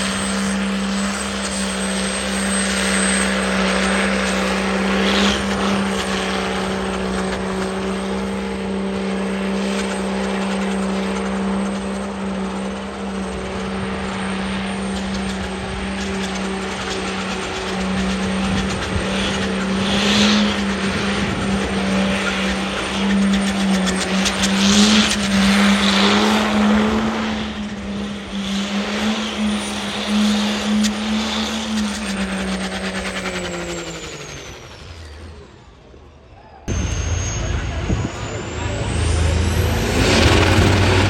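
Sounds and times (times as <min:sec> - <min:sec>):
truck engine under heavy load: 0:00.0 - 0:41.0.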